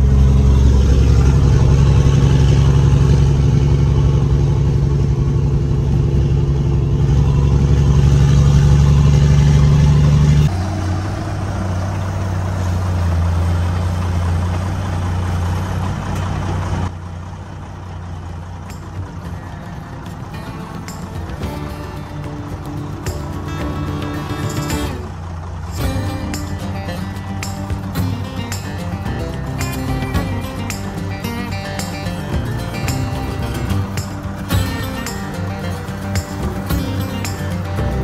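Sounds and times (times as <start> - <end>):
truck diesel engine running: 0.0 - 38.0.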